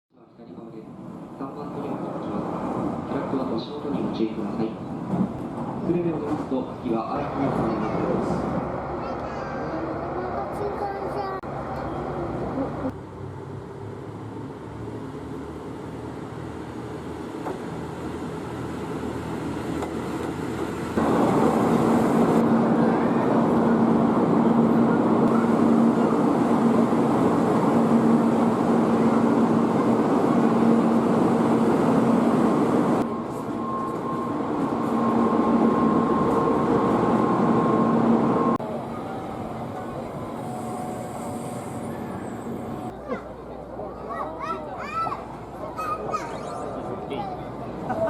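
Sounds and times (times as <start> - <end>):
train rumbling: 0.4 - 44.0.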